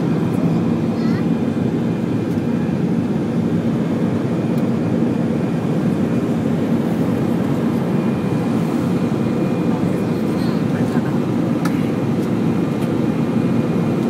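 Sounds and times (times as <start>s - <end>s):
jet engines droning: 0.0s - 14.0s.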